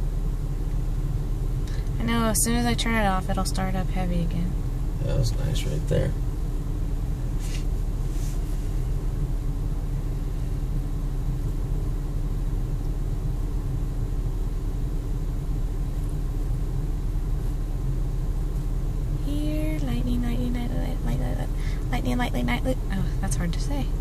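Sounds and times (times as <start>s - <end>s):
low engine rumble and hum: 0.0s - 24.0s.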